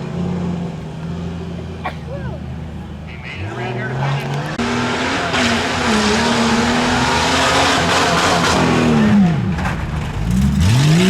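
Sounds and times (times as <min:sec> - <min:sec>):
truck engine revving under load: 0:00.0 - 0:11.0.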